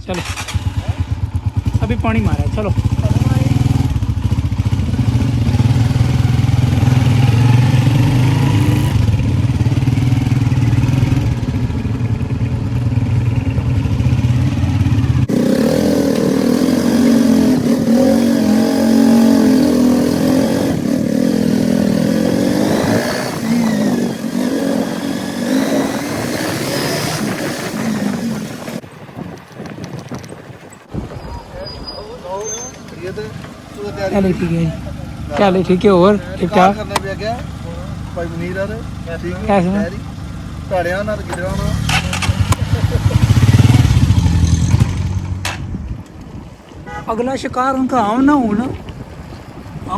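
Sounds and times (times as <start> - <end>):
motorcycle engine running: 0.0 - 28.8, 33.1 - 46.0.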